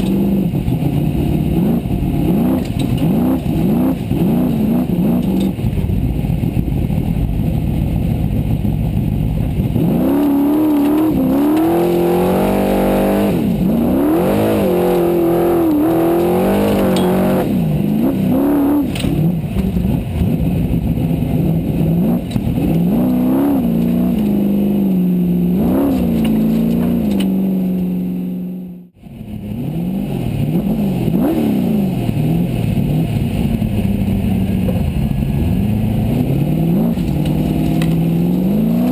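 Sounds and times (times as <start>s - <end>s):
race buggy engine revving: 0.0s - 38.9s.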